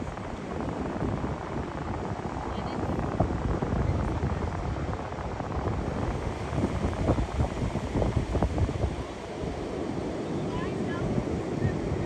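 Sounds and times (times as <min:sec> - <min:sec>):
ocean surf rushing: 0:00.0 - 0:12.0
wind gusting on microphone: 0:00.0 - 0:12.0.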